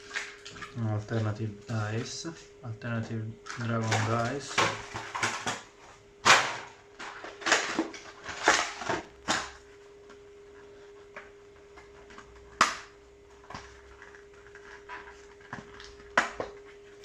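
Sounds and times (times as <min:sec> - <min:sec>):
card packaging crinkling: 0:00.0 - 0:09.8, 0:10.7 - 0:17.0
faint steady hum: 0:00.0 - 0:17.0.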